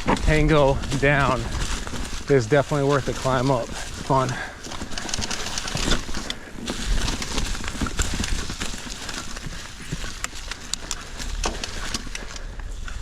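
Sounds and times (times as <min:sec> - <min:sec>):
bike knocking and rattling: 0:00.0 - 0:13.0.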